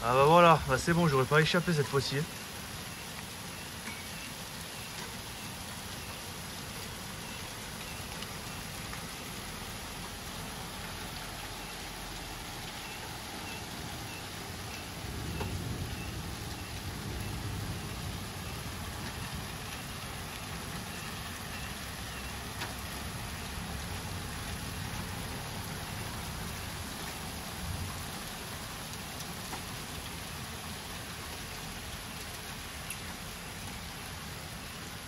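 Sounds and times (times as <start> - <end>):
hail and heavy rain on roofs: 0.0 - 35.0.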